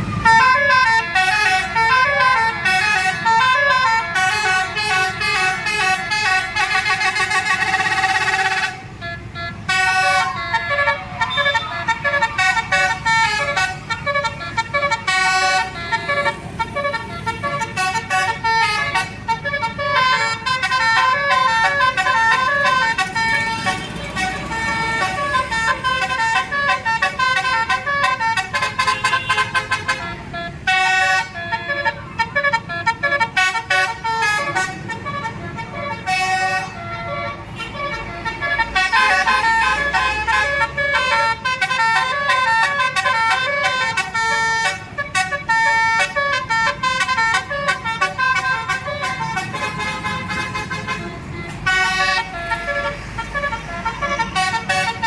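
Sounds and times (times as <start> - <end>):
bus engine rumble: 0.0 - 55.0
multi-trumpet air horn melody: 0.0 - 55.0.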